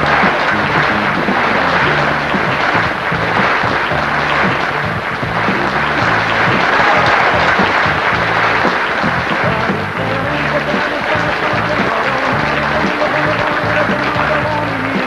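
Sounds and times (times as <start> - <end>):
audience applauding: 0.0 - 15.0
music with repeated bass notes: 0.0 - 15.0.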